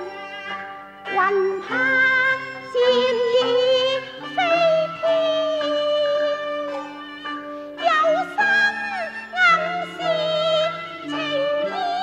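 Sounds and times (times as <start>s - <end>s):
opera ensemble music: 0.0s - 12.0s.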